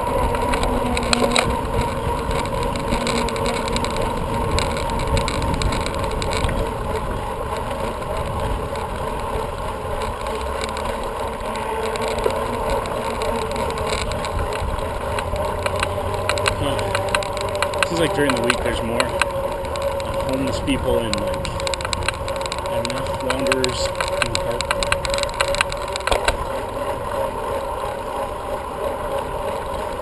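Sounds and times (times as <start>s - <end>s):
wind rumble on microphone: 0.0s - 26.8s
bicycle tyres rolling: 0.0s - 30.0s.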